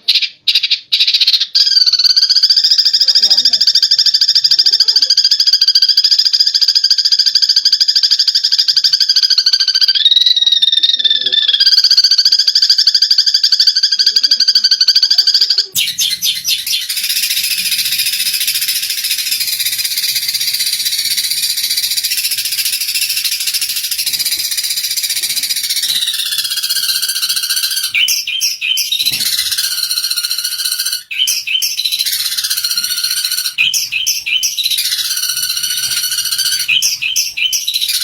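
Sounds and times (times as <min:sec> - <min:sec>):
sparrows chattering: 0:00.0 - 0:38.0
buzzy pulsed bird trill: 0:00.2 - 0:38.0.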